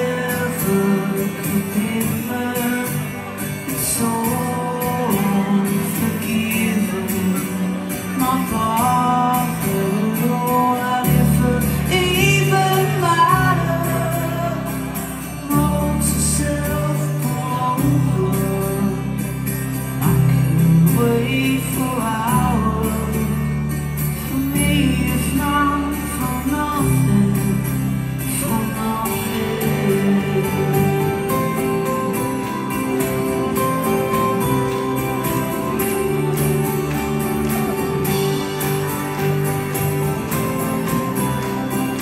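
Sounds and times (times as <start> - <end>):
male singer vocals: 0.0 - 36.0
bass guitar: 0.0 - 42.0
electric guitar: 0.0 - 42.0
keyboard: 0.0 - 42.0.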